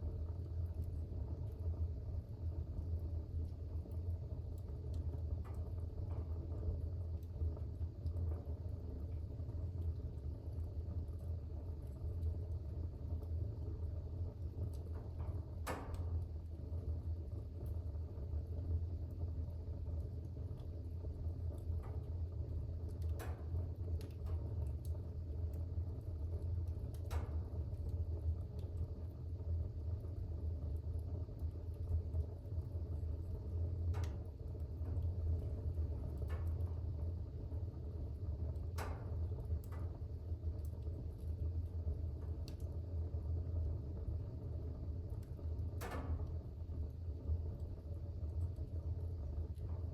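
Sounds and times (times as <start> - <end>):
fire crackling and popping: 0.0 - 49.9
fire rumbling in fireplace: 0.0 - 49.9.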